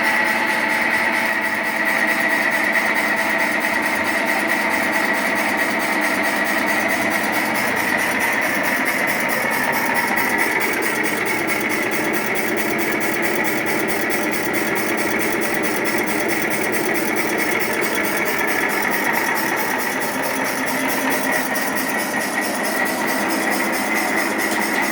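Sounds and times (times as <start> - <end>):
pellet mill machine drone: 0.0 - 24.9.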